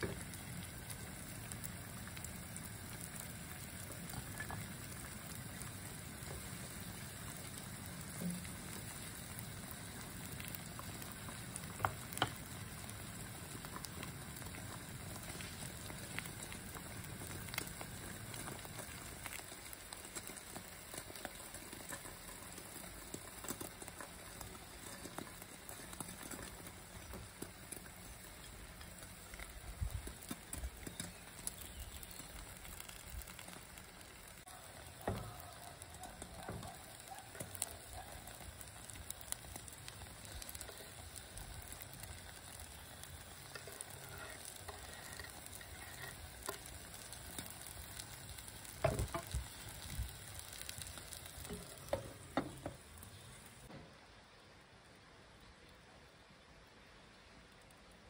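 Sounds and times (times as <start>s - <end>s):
omelette sizzling in a frying pan: 0.0s - 53.7s.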